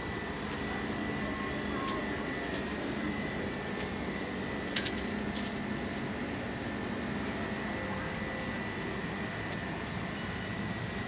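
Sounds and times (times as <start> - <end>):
cooling hum: 0.0 - 11.0.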